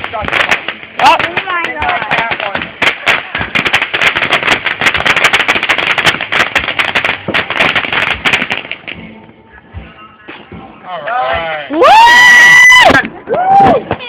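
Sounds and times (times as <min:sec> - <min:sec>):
fireworks crackling and popping: 0:00.0 - 0:10.6, 0:11.4 - 0:14.0.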